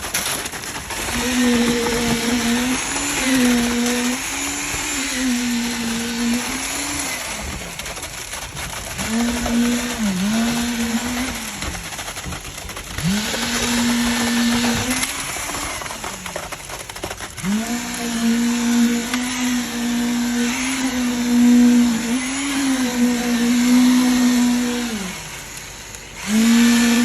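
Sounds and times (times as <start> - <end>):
high-speed motor whining: 0.0 - 27.0.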